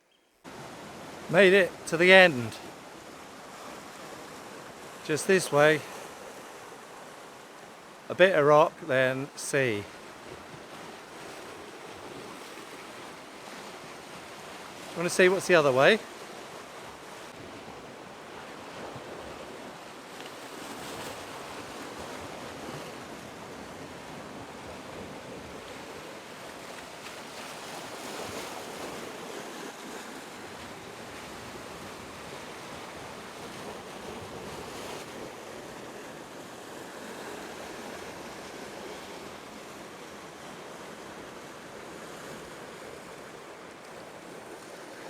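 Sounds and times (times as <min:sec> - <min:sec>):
surf breaking on rocky shore: 0:00.5 - 0:45.0.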